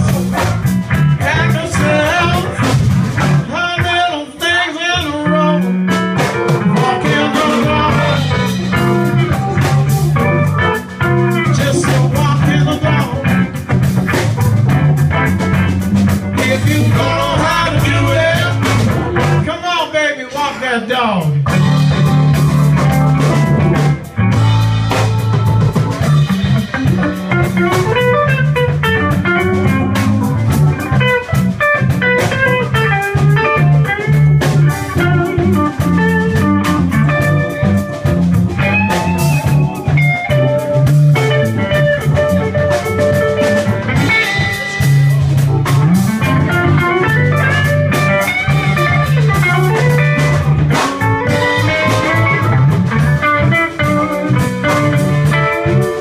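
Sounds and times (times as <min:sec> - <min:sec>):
electric guitar lead line: 0:00.0 - 0:20.3, 0:21.3 - 0:56.0
blues band playing: 0:00.0 - 0:56.0.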